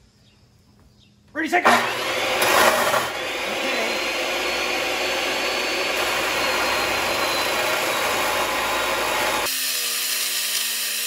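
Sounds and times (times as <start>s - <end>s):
chop saw grinding steel: 1.6s - 11.0s.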